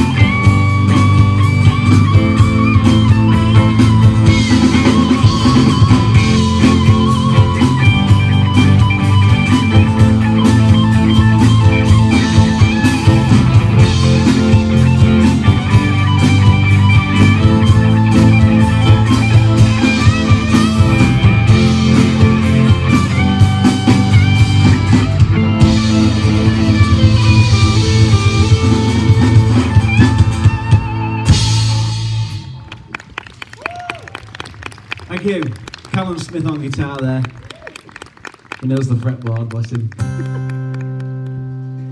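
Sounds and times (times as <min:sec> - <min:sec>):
drums: 0:00.0 - 0:40.5
bass: 0:00.0 - 0:41.9
electric guitar lead: 0:00.0 - 0:41.9.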